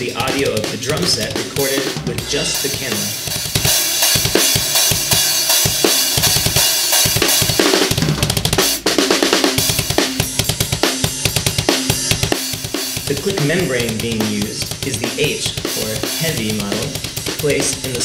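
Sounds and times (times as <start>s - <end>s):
clicky kick drum strokes: 0.0s - 18.0s
drum kit playing: 0.0s - 18.0s.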